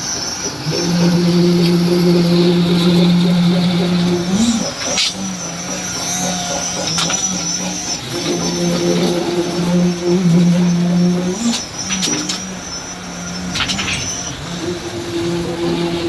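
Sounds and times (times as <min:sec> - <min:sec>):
construction machinery humming: 0:00.0 - 0:16.0.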